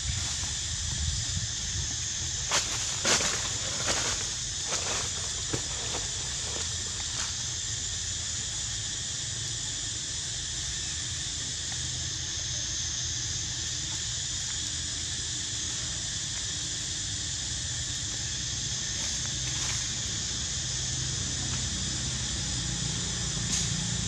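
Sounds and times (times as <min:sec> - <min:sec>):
insect chorus droning: 0:00.0 - 0:24.0.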